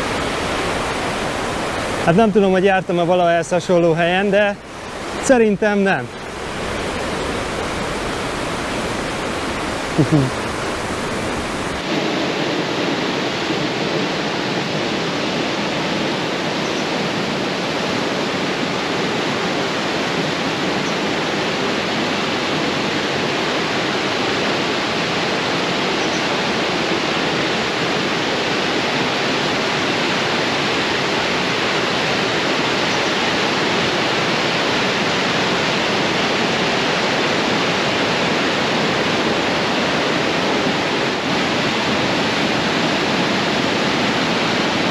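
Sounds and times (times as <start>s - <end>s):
river rushing: 0.0s - 44.9s.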